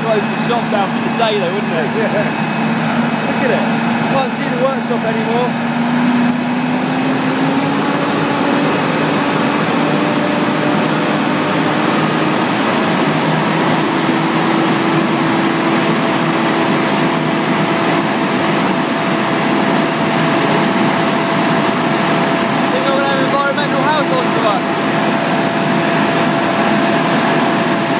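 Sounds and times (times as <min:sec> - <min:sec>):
truck diesel engine at high revs: 0:00.0 - 0:27.9.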